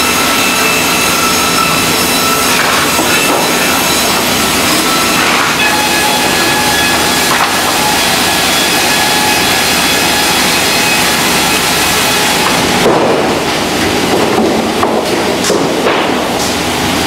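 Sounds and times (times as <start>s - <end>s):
bandsaw machinery noise: 0.0s - 17.0s.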